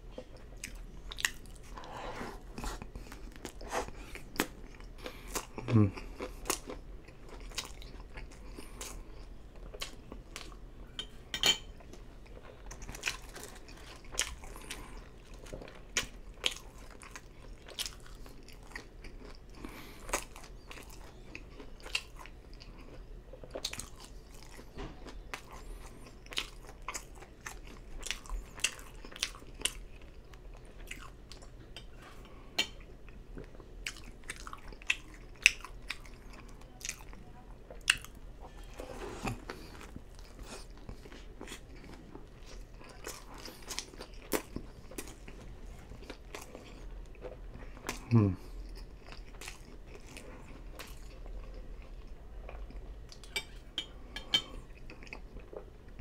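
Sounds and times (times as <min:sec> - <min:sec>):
person chewing food: 0:00.1 - 0:10.9, 0:11.7 - 0:56.0.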